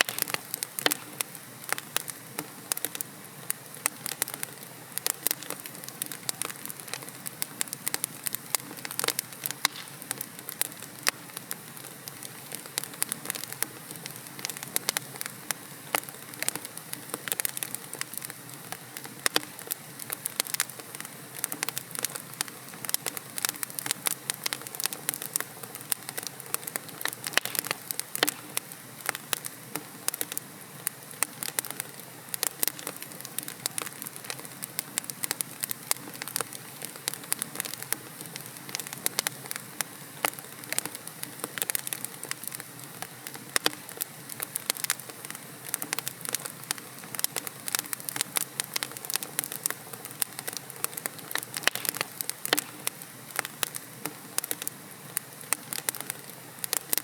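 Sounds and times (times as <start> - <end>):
burning logs crackling: 0.0 - 57.0
fire hissing: 0.0 - 57.0.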